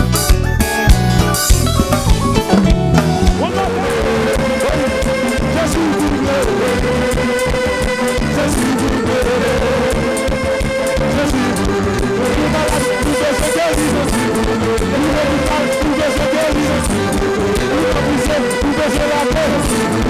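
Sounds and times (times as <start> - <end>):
drum kit beat: 0.0 - 19.8
gospel band playing live: 0.0 - 20.0
guitars: 0.0 - 20.0.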